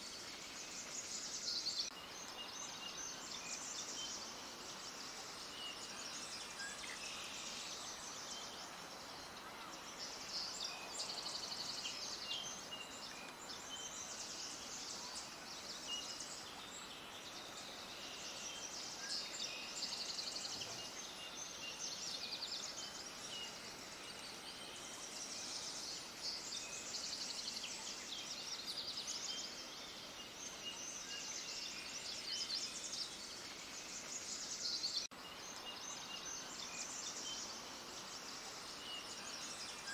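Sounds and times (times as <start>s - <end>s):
small birds twittering: 0.0s - 39.9s
steady background hiss: 0.0s - 39.9s.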